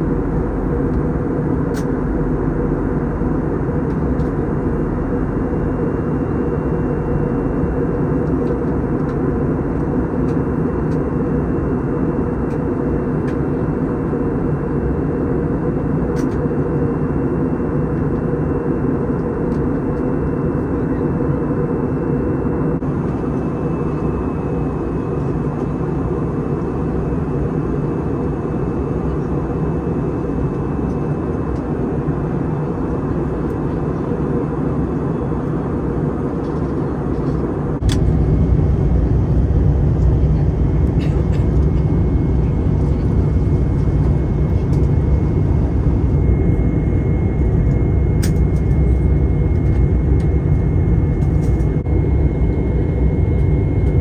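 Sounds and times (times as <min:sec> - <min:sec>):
airliner engine and airflow rumble: 0:00.0 - 0:54.0.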